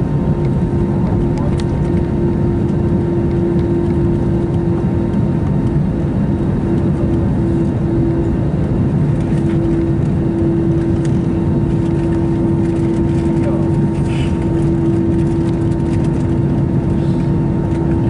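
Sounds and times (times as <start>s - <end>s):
jet engine and airflow noise: 0.0s - 18.0s.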